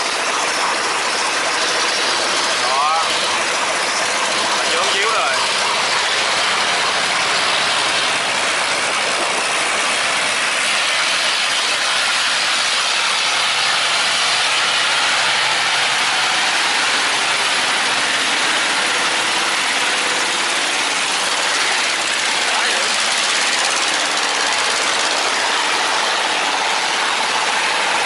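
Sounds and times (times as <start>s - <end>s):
boat motor running: 0.0s - 28.0s.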